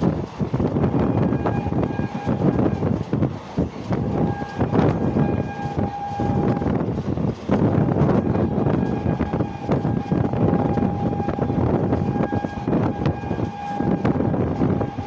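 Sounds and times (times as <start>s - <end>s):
train rumbling clatter: 0.0s - 15.0s.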